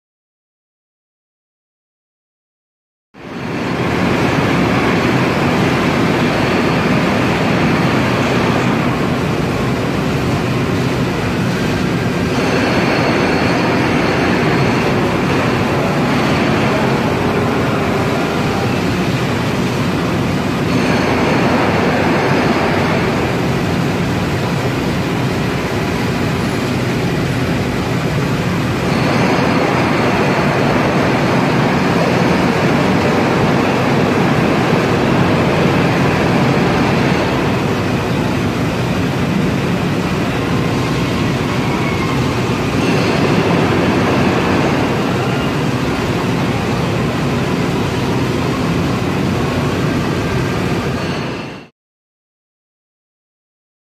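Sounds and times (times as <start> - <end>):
machining center humming: 3.2 - 51.6.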